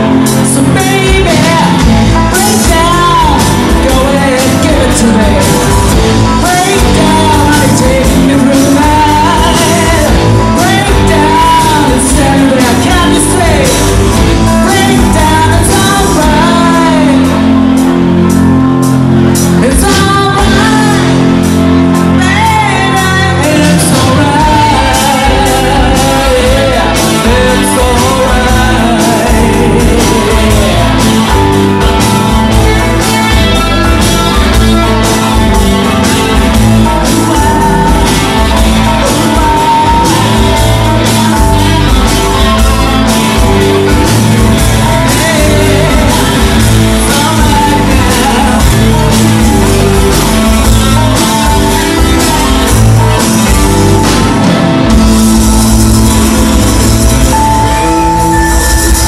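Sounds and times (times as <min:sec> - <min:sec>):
bass and drums beat: 0:00.0 - 0:59.0
live rock band playing: 0:00.0 - 0:59.0
person singing: 0:00.0 - 0:59.0.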